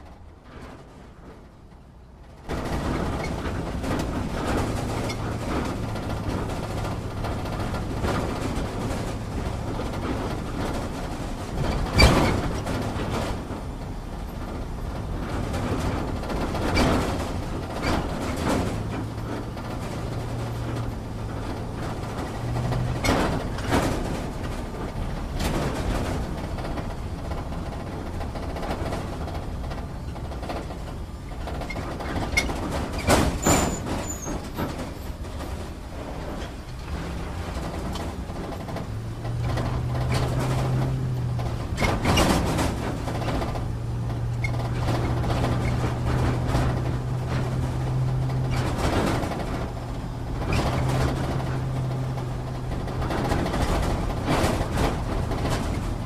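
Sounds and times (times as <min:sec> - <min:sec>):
vehicle engine drone: 0:00.0 - 0:56.0
vehicle knocks and rattles: 0:00.0 - 0:56.0.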